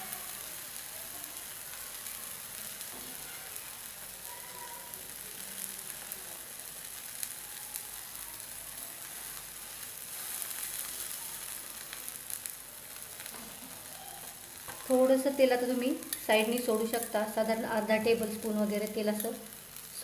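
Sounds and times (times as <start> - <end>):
batter sizzling in oil: 0.0 - 20.0.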